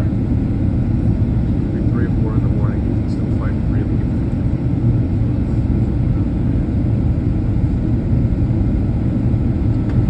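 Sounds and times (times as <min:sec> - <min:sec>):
airliner engines rumbling: 0:00.0 - 0:10.0.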